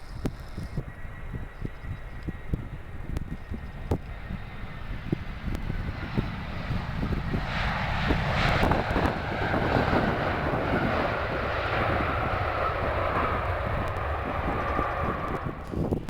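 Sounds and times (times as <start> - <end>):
jet engines roaring overhead: 0.0 - 16.0
wind buffeting microphone: 0.0 - 16.0.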